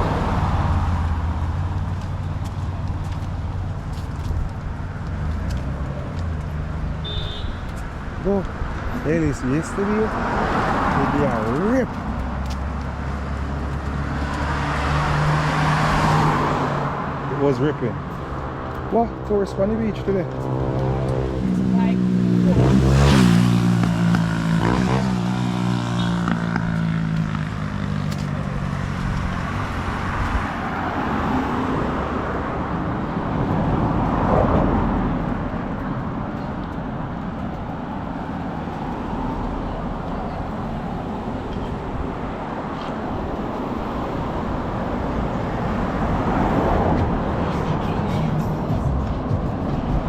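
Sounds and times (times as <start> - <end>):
road traffic noise: 0.0 - 50.0
vehicle engine humming: 0.0 - 50.0
vehicle passing loudly: 0.0 - 50.0.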